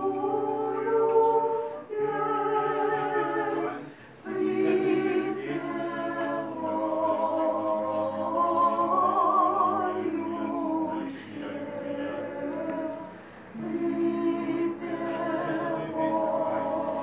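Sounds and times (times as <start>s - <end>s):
church choir chanting: 0.0s - 17.0s.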